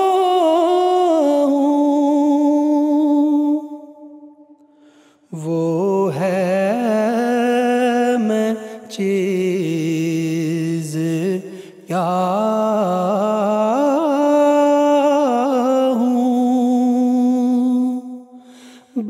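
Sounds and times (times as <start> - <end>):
man singing: 0.0 - 4.2, 5.3 - 19.0.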